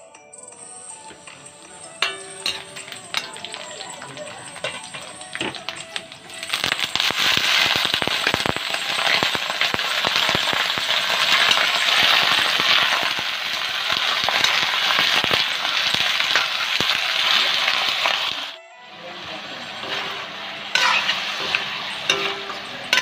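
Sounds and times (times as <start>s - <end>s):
chicken sizzling in hot oil: 1.1s - 23.0s.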